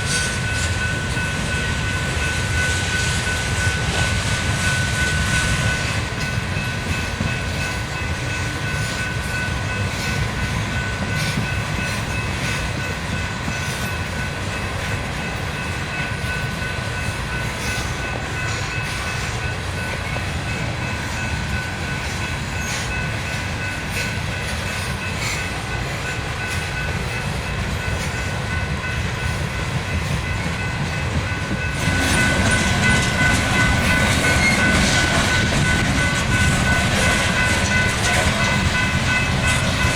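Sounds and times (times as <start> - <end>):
freight train rolling by: 0.0 - 39.9.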